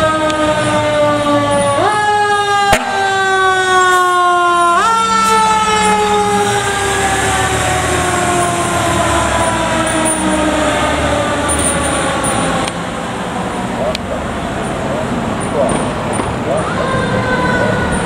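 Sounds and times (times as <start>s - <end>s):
fire engine rumbling past: 0.0s - 18.0s.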